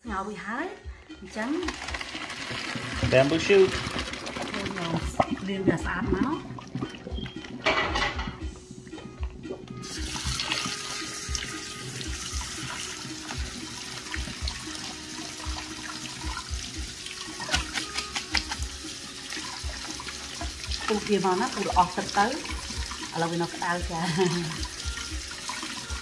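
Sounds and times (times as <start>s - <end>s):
tap water running: 1.1s - 26.0s
water splashing: 1.3s - 7.8s, 8.9s - 26.0s.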